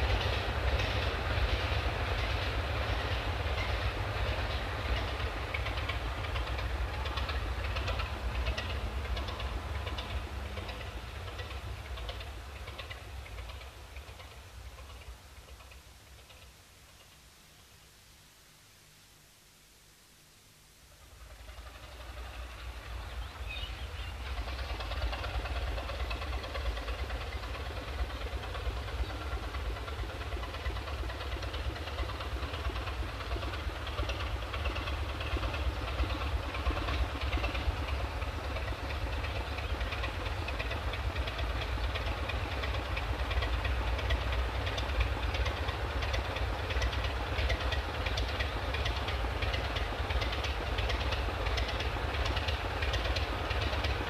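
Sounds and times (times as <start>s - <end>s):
diesel locomotive engine rumble: 0.0s - 18.0s, 20.8s - 54.0s.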